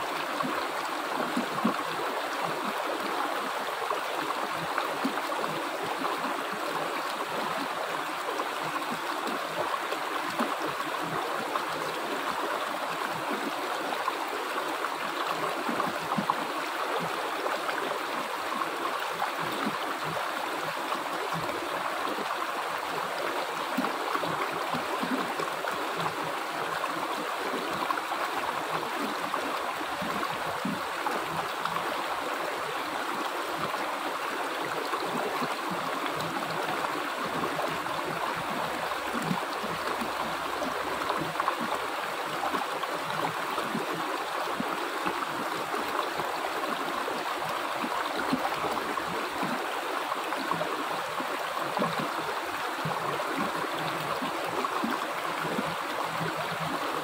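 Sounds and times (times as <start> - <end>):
stream flowing over cascades: 0.0 - 57.0.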